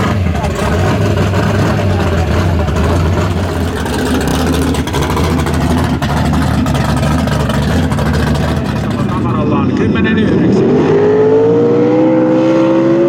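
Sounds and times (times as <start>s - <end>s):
car engine with deep exhaust: 0.0s - 13.0s.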